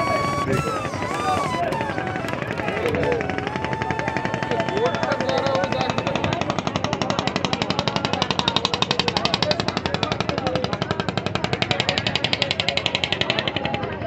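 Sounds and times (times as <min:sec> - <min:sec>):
boat engine chugging: 0:00.0 - 0:14.0.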